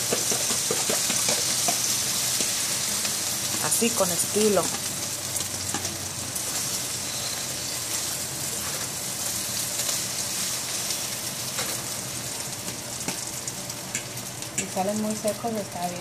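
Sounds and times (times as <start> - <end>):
eggs sizzling in a pan: 0.0 - 16.0.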